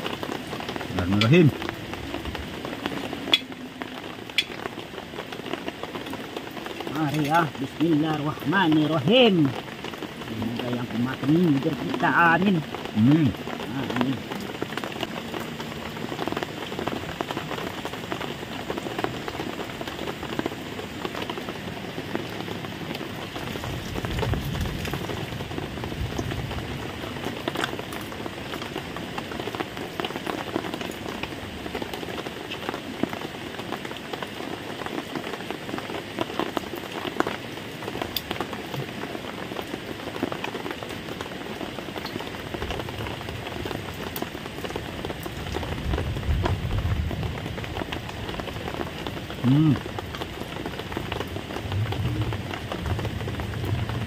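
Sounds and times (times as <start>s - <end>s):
sharp raindrop hits: 0.0s - 54.0s
steady rain patter: 0.0s - 54.0s.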